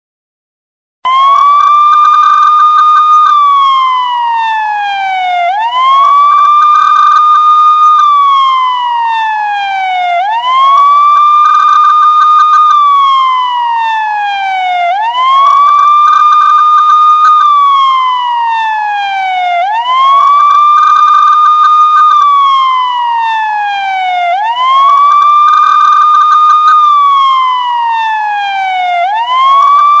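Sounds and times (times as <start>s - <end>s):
police siren wailing: 1.0s - 30.0s.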